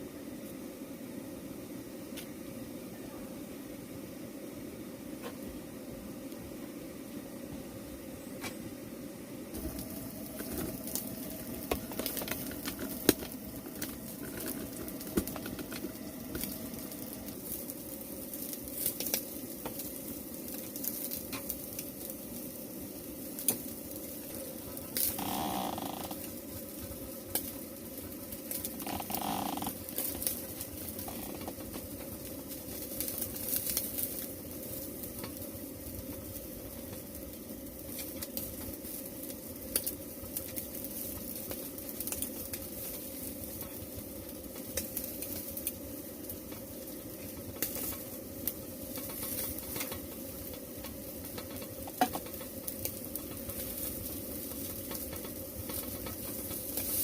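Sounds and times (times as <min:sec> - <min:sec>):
food sizzling in a pan: 0:09.5 - 0:57.0.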